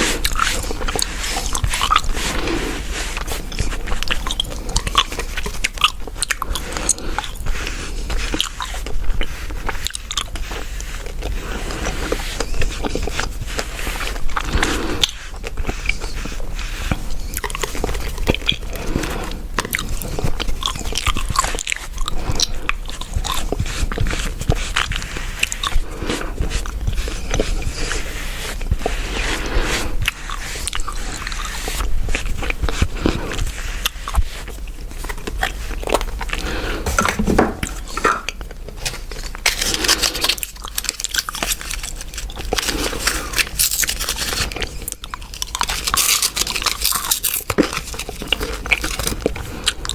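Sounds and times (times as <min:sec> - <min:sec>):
gum chewing with clicks: 0:00.0 - 0:49.9.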